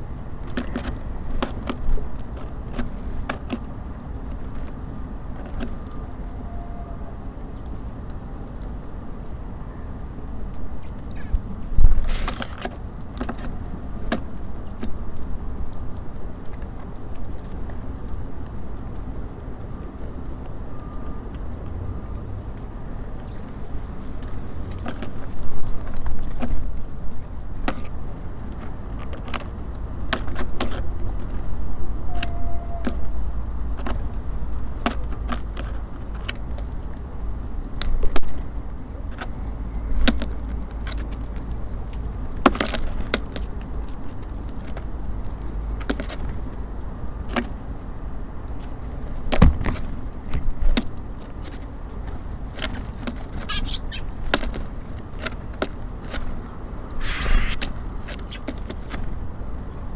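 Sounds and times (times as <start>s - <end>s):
birds pecking and landing taps: 0.0s - 6.1s, 10.4s - 59.9s
low rumble of city traffic: 0.0s - 59.9s.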